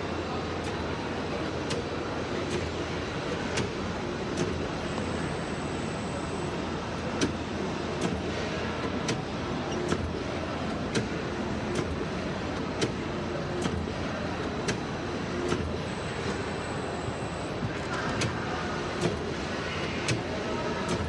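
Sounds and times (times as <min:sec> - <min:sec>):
print unit clicking: 0:00.5 - 0:21.0
machine running noise: 0:02.3 - 0:21.0.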